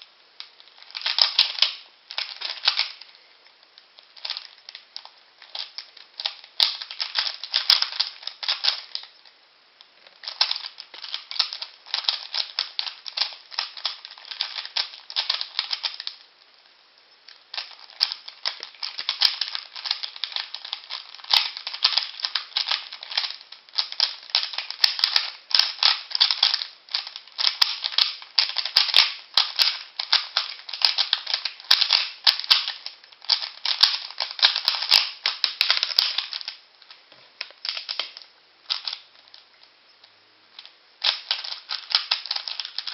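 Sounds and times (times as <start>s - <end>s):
puzzle cube plastic clicking: 0.4s - 9.3s, 10.1s - 16.3s, 17.3s - 39.7s, 40.6s - 42.9s.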